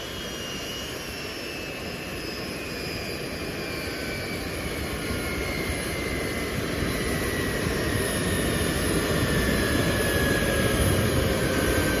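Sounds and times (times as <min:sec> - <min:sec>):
jet engine roar with whine: 0:00.0 - 0:12.0.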